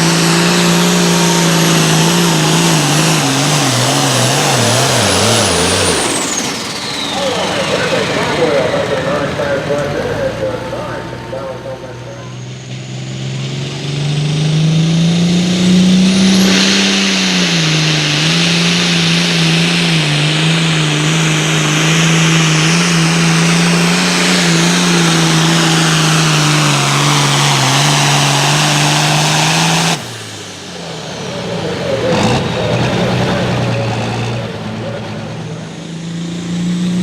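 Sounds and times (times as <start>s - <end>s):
diesel tractor engine under load: 0.0s - 37.0s
engine revving up: 0.0s - 37.0s.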